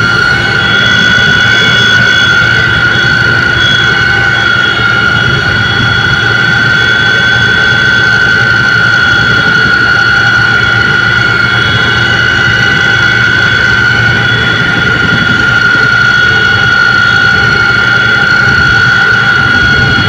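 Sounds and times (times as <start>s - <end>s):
aircraft engine drone: 0.0s - 20.0s
high engine whine: 0.0s - 20.0s.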